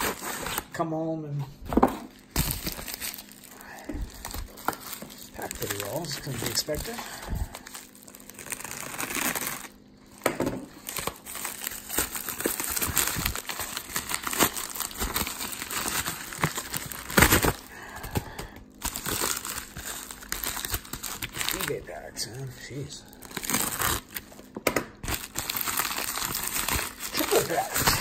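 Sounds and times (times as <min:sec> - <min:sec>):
plastic mailers crinkling: 0:00.0 - 0:00.8, 0:02.1 - 0:28.0.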